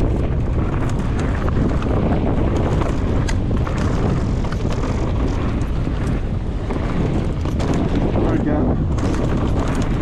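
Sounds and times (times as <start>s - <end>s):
bike clicks and rattles: 0.0s - 10.0s
bike tyres rumbling on dirt: 0.0s - 10.0s
wind buffeting microphone: 0.0s - 10.0s.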